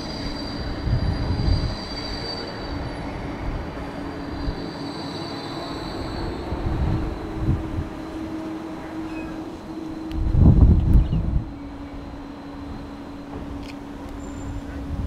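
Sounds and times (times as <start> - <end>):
tram wheels rumbling on rails: 0.0 - 15.0
tram whine: 0.0 - 15.0.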